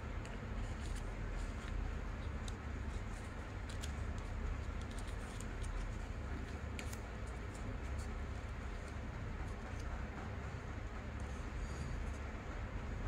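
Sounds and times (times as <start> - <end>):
steady low hum: 0.0 - 13.0
paper crinkling and tapping: 0.2 - 12.2.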